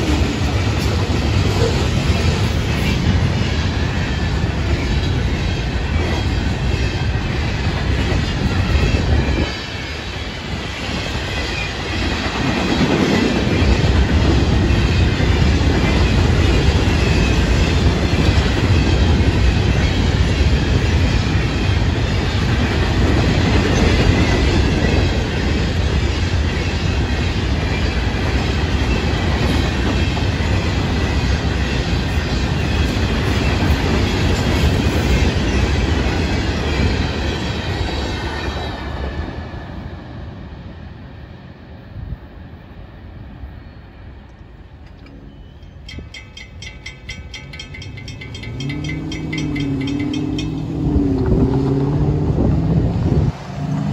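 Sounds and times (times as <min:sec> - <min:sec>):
steel wheels rumbling on rails: 0:00.0 - 0:53.9.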